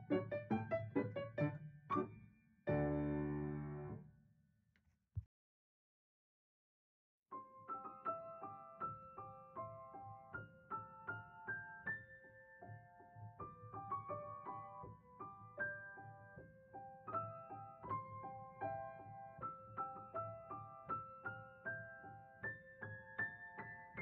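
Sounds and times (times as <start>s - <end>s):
solo piano music: 0.0s - 4.0s, 7.3s - 24.0s.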